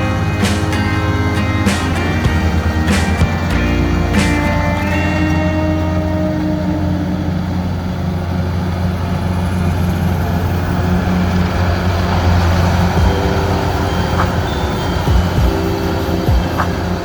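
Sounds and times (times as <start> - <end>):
heavy vehicle engine droning: 0.0 - 17.0.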